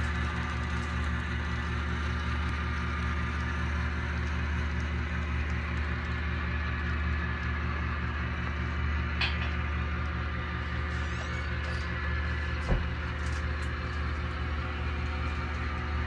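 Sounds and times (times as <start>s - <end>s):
model train running: 0.0s - 9.0s, 9.8s - 16.0s.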